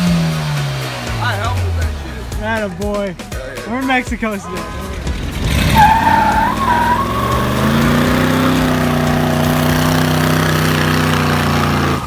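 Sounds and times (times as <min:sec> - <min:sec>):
car engine revving: 0:00.0 - 0:03.3, 0:03.9 - 0:12.0.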